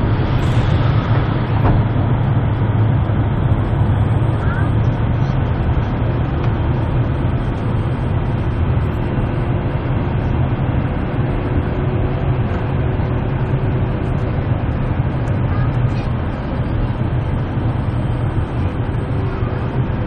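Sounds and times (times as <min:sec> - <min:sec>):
jet engine and airflow roar: 0:00.0 - 0:20.0.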